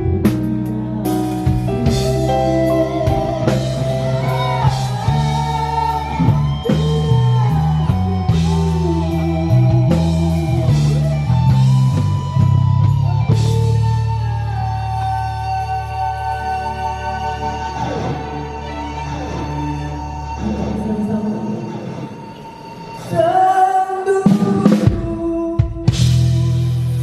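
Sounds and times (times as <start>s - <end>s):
bass line: 0.0s - 22.4s, 24.3s - 27.0s
sliding lead melody: 0.0s - 23.8s
guitar: 0.0s - 27.0s.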